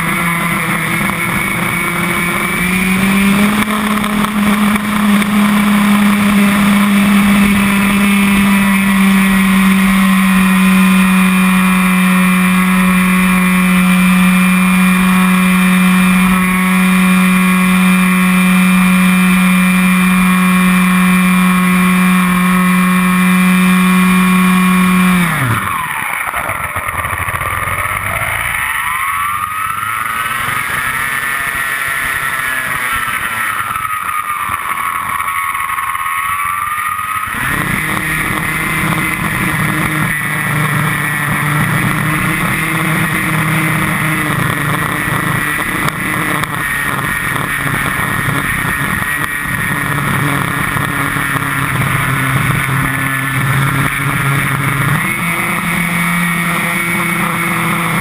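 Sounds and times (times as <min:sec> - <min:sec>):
deeper buzz: 0:00.0 - 0:58.0
glider whining buzz: 0:00.0 - 0:58.0.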